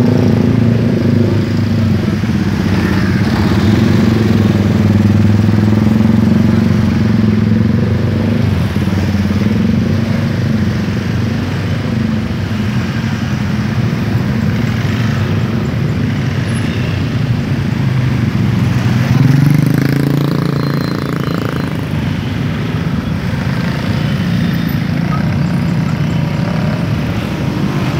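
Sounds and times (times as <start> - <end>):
motor scooters in traffic: 0.0 - 27.9.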